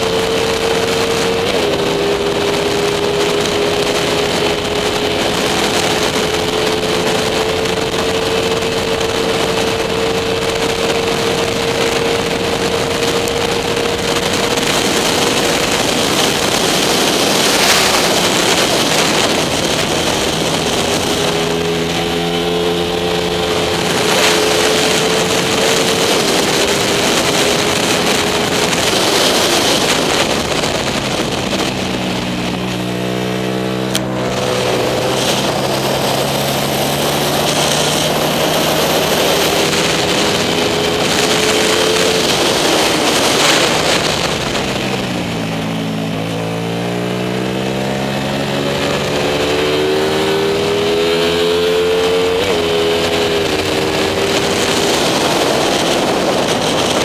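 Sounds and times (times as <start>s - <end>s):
motorcycle engine high revs: 0.0s - 57.0s
wind rush on microphone: 0.0s - 57.0s.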